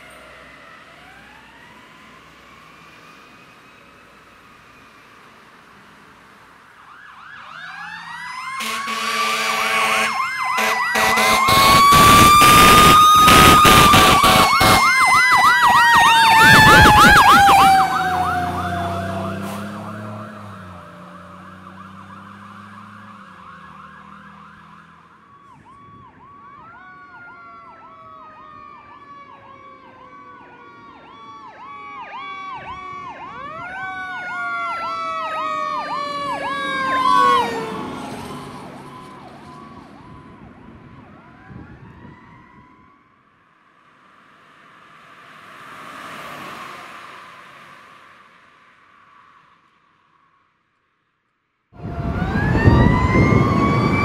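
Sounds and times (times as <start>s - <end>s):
fire truck siren wailing: 0.0s - 5.0s, 6.6s - 43.3s, 51.8s - 54.0s.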